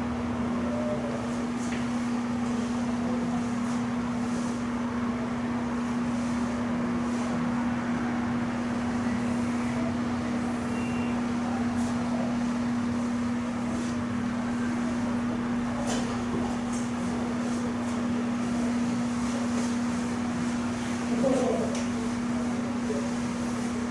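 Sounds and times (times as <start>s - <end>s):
steady machine hum: 0.0s - 23.9s.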